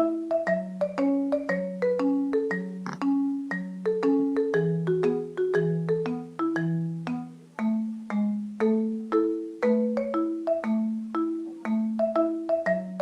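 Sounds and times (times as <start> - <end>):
light bouncy background music: 0.0 - 13.0.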